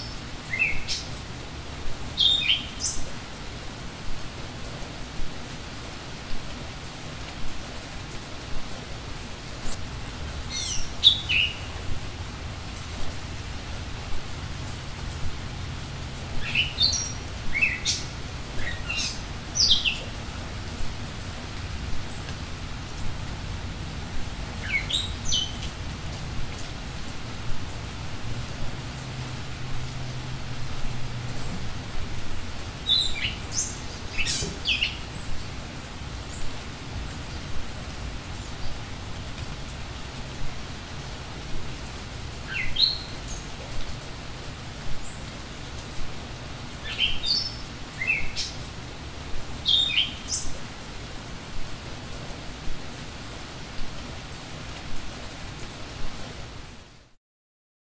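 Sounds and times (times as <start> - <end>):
songbirds chirping: 0.0 - 30.7, 31.3 - 56.6
steady hiss: 0.0 - 57.2.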